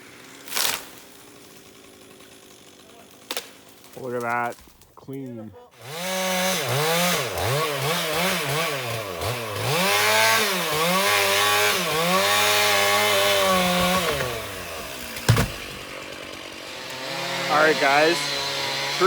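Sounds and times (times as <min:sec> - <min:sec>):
chainsaw cutting wood: 0:00.0 - 0:04.8, 0:05.8 - 0:19.0.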